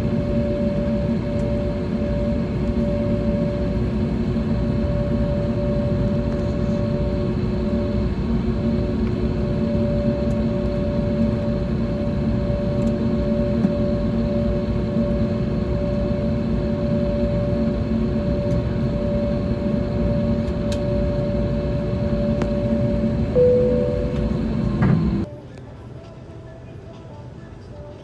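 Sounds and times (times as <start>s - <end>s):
aircraft cabin drone: 0.0s - 25.3s.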